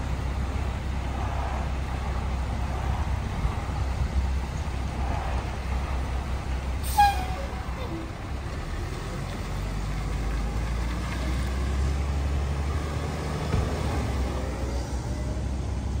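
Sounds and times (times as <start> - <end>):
garbage truck diesel engine rumbling: 0.0 - 16.0.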